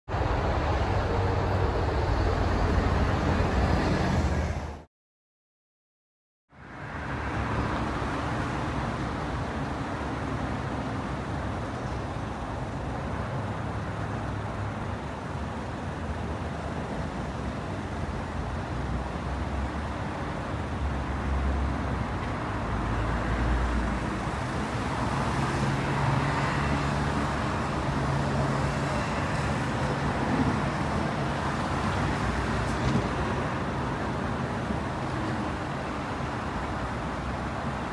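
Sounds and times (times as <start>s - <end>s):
road traffic with engines running: 0.1s - 4.9s, 6.5s - 37.9s.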